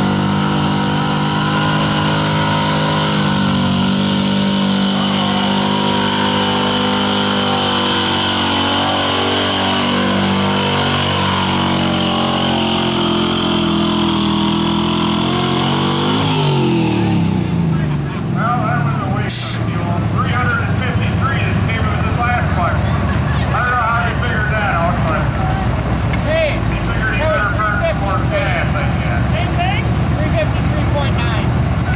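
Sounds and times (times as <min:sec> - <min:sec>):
truck engine revving under load: 0:00.0 - 0:31.9.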